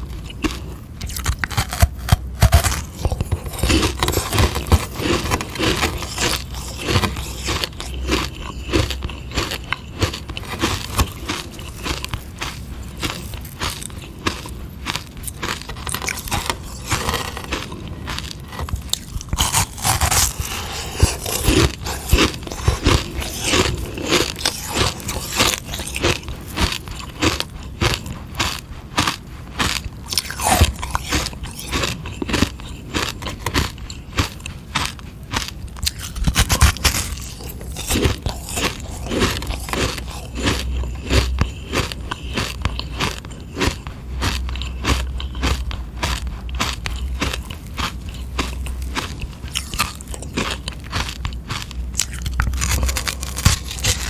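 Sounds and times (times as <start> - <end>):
crunching and chewing ice lolly: 0.0 - 54.0.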